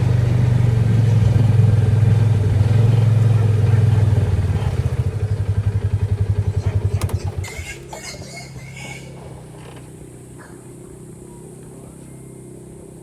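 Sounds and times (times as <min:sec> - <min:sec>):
engine idling and shutting off: 0:00.0 - 0:13.0.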